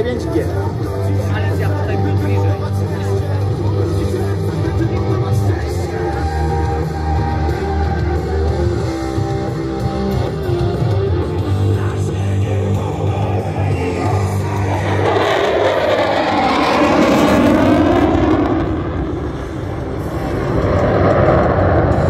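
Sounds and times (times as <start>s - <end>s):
rock music over loudspeakers: 0.0s - 22.0s.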